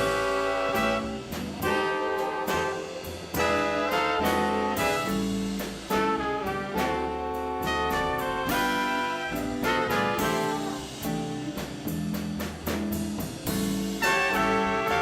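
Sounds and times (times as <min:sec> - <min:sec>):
swing band playing blues ballad: 0:00.0 - 0:15.0.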